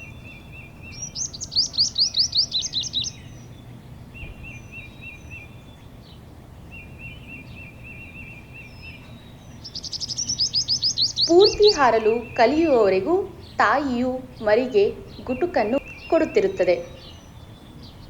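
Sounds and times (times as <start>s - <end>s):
soft low bird trill: 0.0s - 18.0s.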